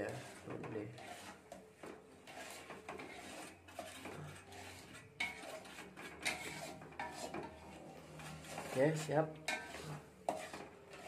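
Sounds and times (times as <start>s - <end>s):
brush rubbing metal grill pan: 0.0s - 11.0s.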